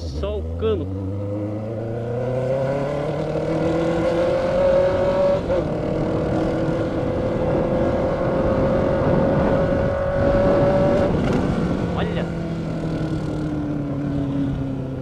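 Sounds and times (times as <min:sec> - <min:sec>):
motorcycle engine revving high: 0:00.0 - 0:15.0.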